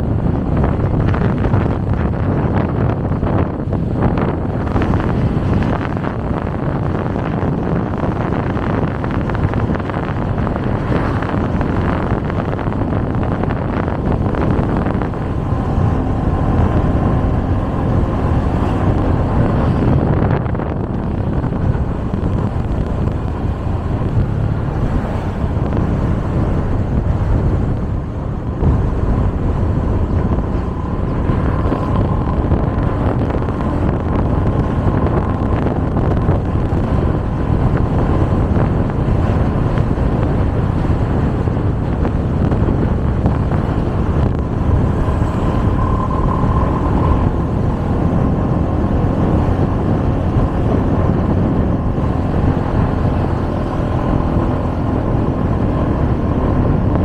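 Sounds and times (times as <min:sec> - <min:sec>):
street traffic rumble: 0:00.0 - 0:57.0
wind buffeting microphone: 0:00.0 - 0:57.0.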